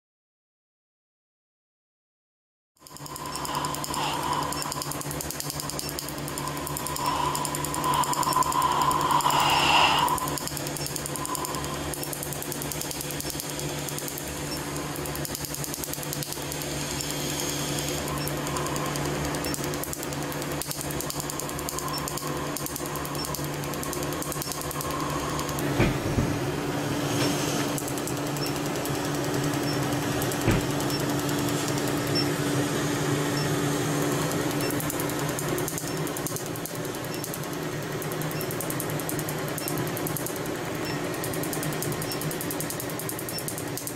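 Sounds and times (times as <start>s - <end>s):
steady hum: 2.8s - 43.3s.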